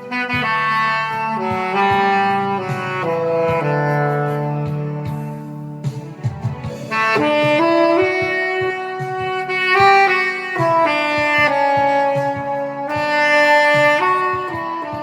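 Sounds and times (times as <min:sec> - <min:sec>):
backing music with low beat: 0:00.0 - 0:15.0
saxophone melody: 0:00.0 - 0:15.0.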